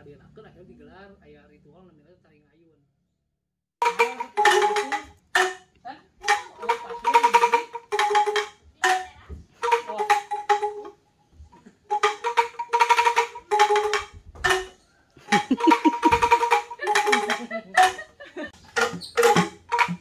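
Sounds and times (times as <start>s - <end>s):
bamboo angklungs rattling: 3.8s - 20.0s.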